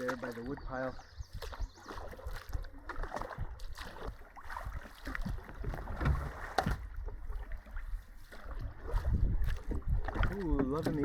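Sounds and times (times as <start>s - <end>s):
paddle strokes splashing: 0.0s - 11.0s
water moving along hull: 0.0s - 11.0s
wind rumbling on microphone: 0.4s - 11.0s.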